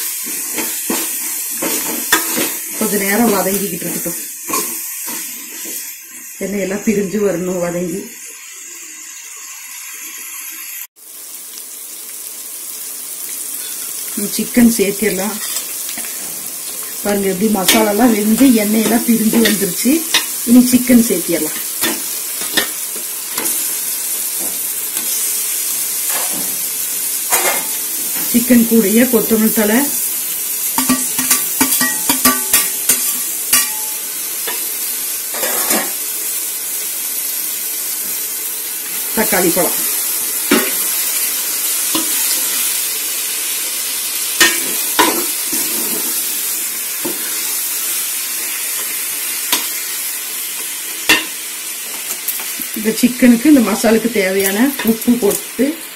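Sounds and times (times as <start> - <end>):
masala sizzling in hot oil: 0.0 - 55.9.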